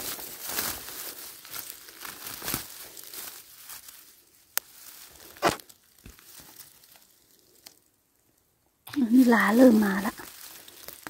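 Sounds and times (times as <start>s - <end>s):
vegetation rustling and crackling: 0.0s - 11.0s.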